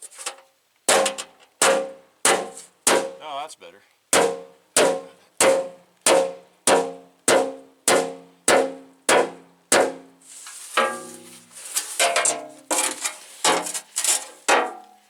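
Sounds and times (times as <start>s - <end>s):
sledgehammer pounding sheet metal: 0.9s - 3.2s, 4.1s - 14.8s.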